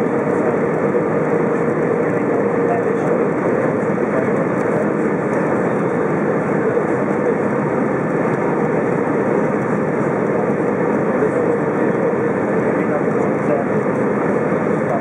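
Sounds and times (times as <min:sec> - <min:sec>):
aircraft engine hum: 0:00.0 - 0:15.0.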